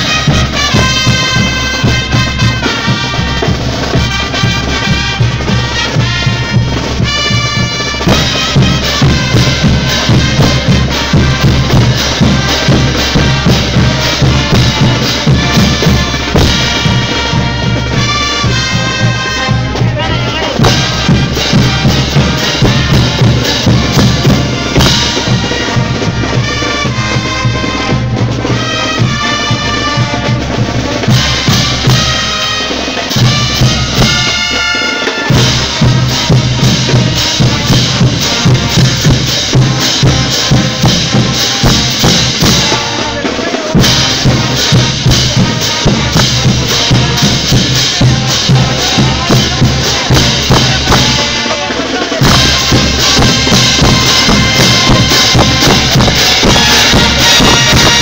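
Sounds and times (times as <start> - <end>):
bass drum beat: 0.0 - 58.0
brass melody: 0.0 - 58.0.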